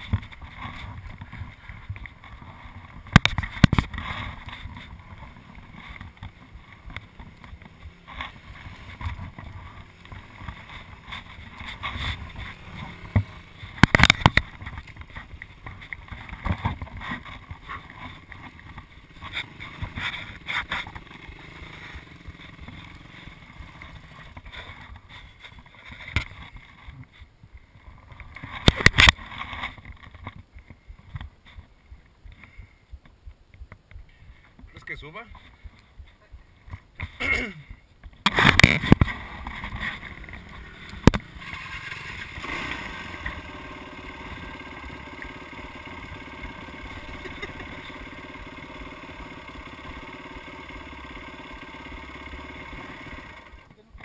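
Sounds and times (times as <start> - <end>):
dirt bike engine at low revs: 0.0 - 54.0.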